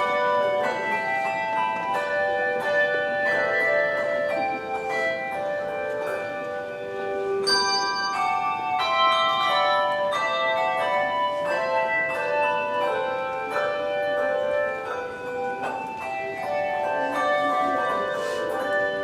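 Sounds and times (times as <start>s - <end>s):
handbell choir playing: 0.0s - 19.0s.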